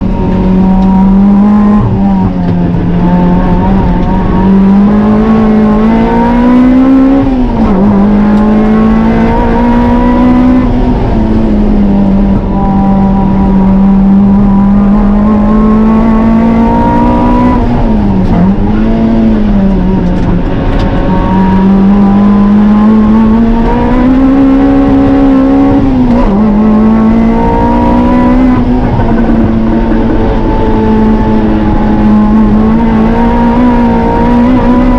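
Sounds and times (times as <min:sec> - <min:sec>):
car engine revving hard: 0:00.0 - 0:34.9.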